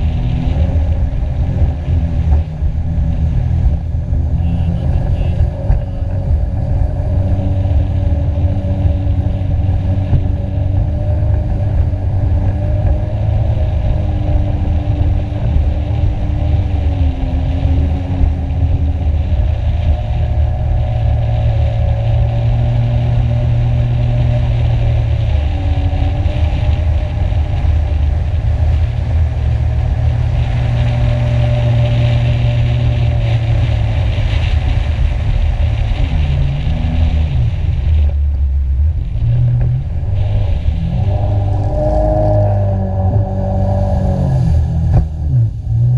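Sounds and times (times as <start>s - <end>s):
heavy low rumble: 0.0s - 45.9s
jet ski engine at speed: 0.0s - 45.9s.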